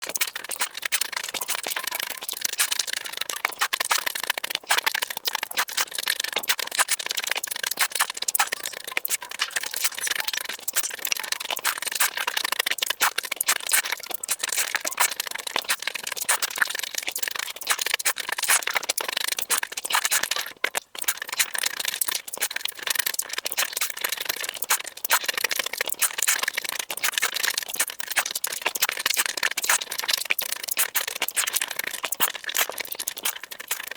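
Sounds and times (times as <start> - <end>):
chewing and crunching food: 0.0 - 33.9.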